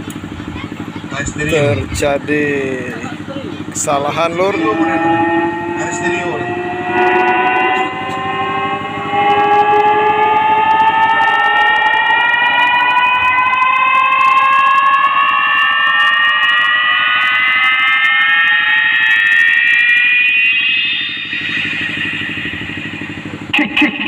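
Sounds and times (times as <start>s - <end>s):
electronic siren-like tone: 0.0s - 24.0s.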